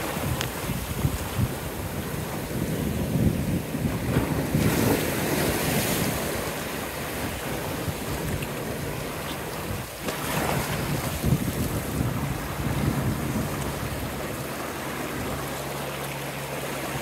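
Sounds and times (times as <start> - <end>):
small waves breaking over rocks: 0.0 - 17.0
wind rumbling on microphone: 0.0 - 17.0.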